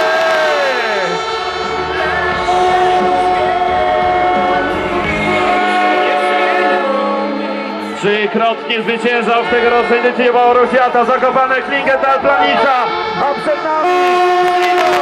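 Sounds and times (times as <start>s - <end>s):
horns blowing: 0.0s - 15.0s
stadium crowd cheering: 0.0s - 15.0s.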